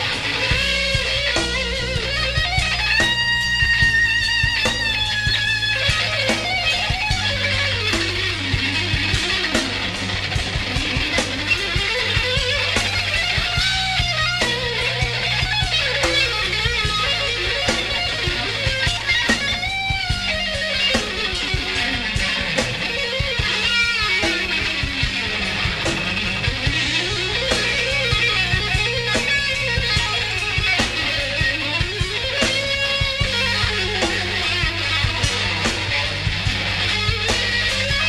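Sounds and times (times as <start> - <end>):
drum hits: 0.0 - 38.0
electric guitar lead line: 0.0 - 38.0.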